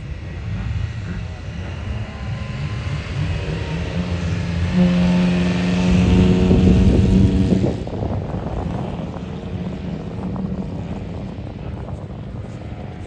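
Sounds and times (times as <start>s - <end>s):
racing car engine passing: 0.0s - 13.0s.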